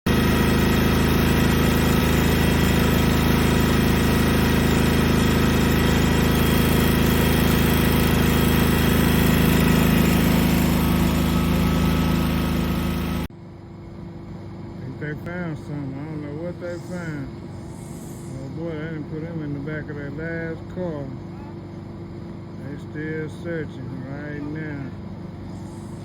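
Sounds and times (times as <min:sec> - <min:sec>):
engine idling loudly: 0:00.1 - 0:13.3, 0:14.8 - 0:26.0.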